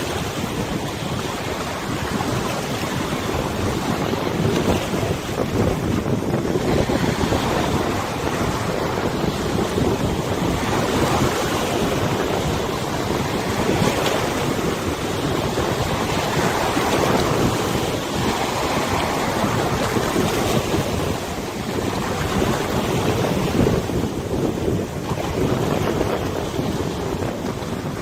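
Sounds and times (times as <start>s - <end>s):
river water rushing: 0.0s - 28.0s
wind buffeting microphone: 0.0s - 28.0s.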